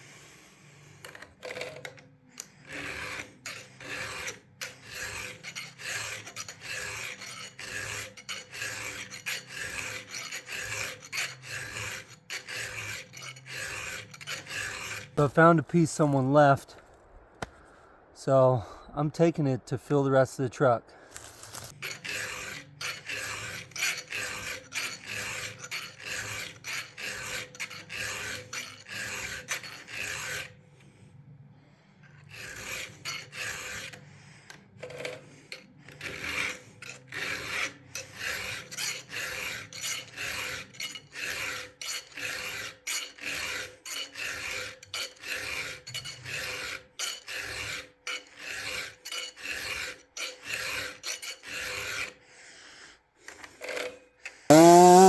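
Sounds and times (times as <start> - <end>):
file rasping on chainsaw chain: 0.1 - 16.5, 21.3 - 31.1, 31.8 - 55.0.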